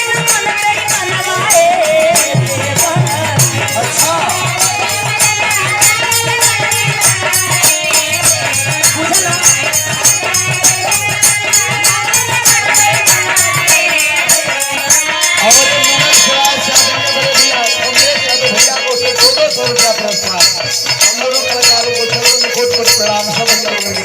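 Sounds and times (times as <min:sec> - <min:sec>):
fast percussion: 0:00.0 - 0:24.0.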